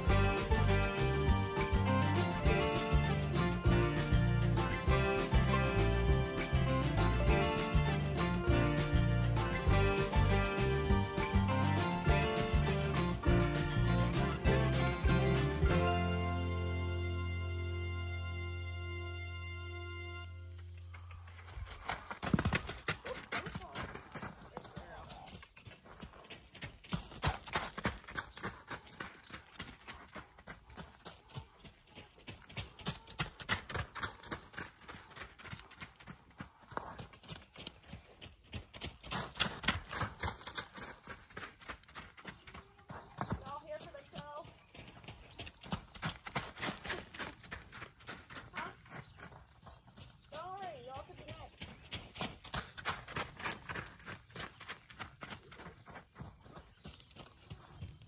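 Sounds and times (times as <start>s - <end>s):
horse hoofbeats on packed dirt: 0.0s - 16.7s, 20.7s - 58.0s.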